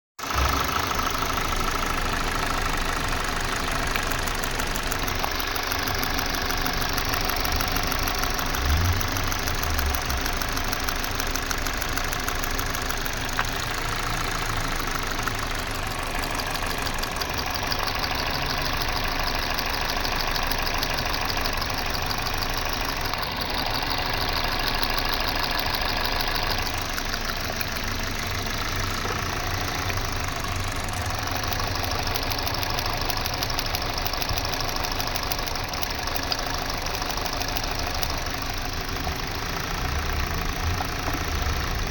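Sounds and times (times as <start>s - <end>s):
car engine idling: 0.2s - 41.9s.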